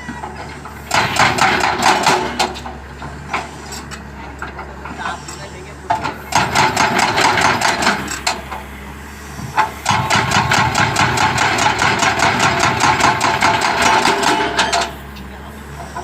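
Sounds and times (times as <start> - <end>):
excavator engine running: 0.0 - 16.0
hydraulic breaker hammering: 0.1 - 4.8, 5.9 - 8.7, 9.5 - 16.0.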